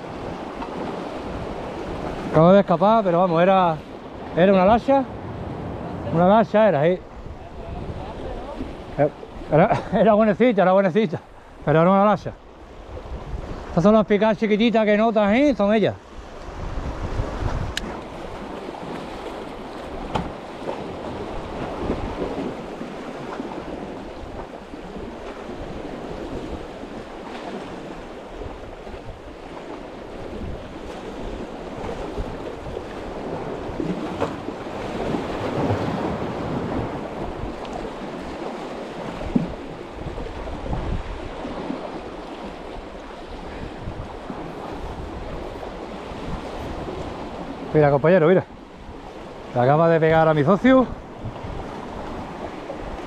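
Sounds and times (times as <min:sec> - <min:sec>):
wind buffeting microphone: 0:00.0 - 0:10.2, 0:11.2 - 0:14.4, 0:15.0 - 0:53.0
sea waves washing ashore: 0:00.0 - 0:53.0.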